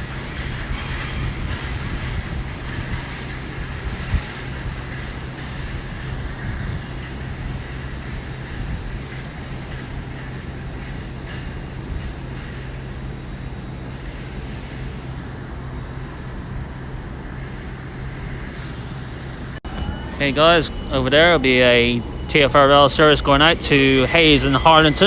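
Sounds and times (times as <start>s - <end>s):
low hum of electric trains: 0.0s - 25.0s.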